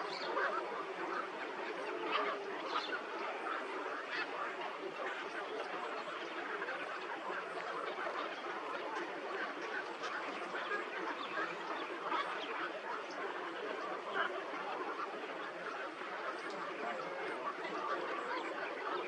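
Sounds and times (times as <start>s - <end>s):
flock of birds chattering: 0.0s - 19.0s.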